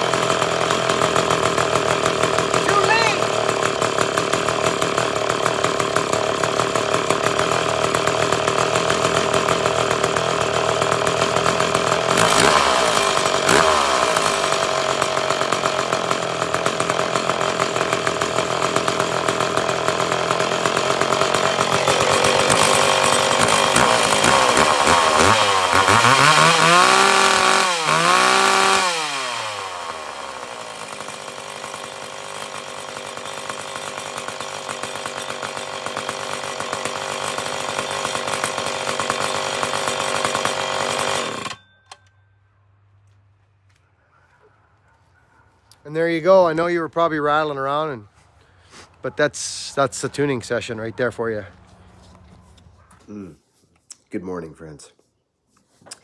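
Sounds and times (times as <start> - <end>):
chainsaw running and revving: 0.0 - 41.6, 45.8 - 52.4.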